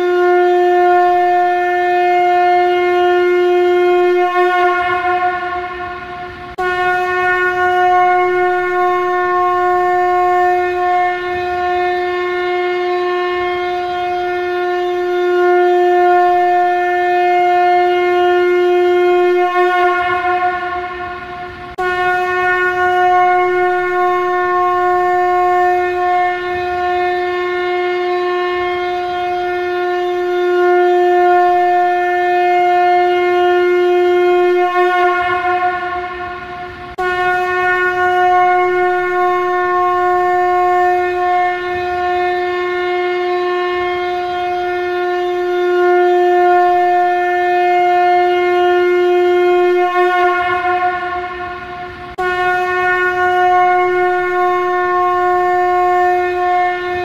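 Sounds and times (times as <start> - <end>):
conch shell blasts: 0.0 - 57.0.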